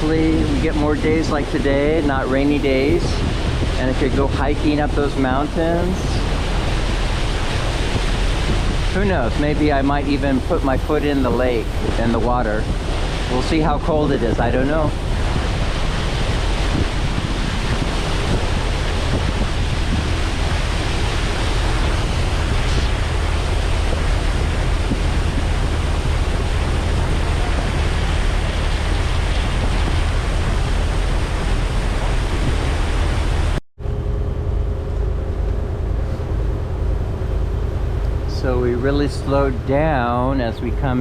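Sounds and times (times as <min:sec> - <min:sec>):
ferry engine rumbling: 0:00.0 - 0:41.0
wind on microphone: 0:00.0 - 0:41.0.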